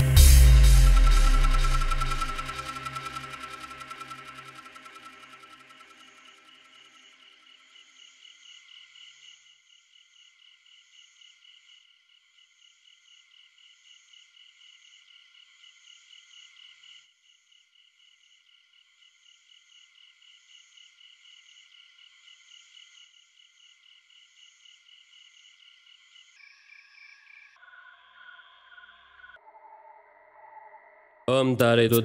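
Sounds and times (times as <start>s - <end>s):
frogs chirring: 1.5s - 31.3s.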